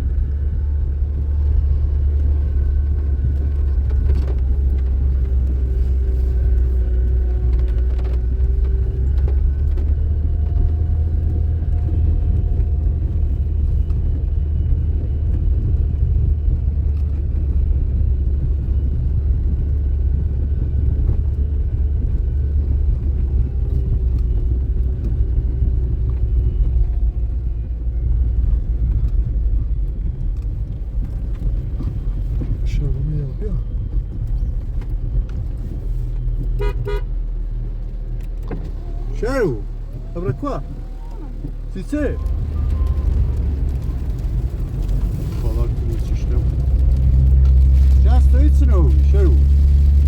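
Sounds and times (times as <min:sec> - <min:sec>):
car engine and road rumble: 0:00.0 - 0:50.0.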